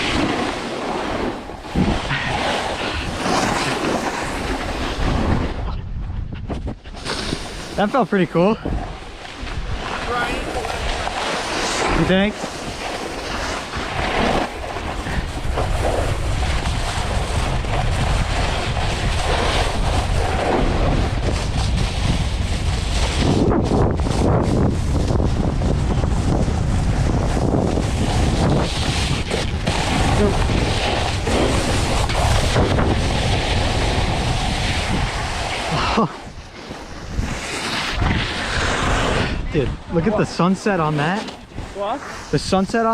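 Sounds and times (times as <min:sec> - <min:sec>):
snowboard scraping over snow: 0:00.0 - 0:42.9
wind buffeting microphone: 0:00.0 - 0:42.9.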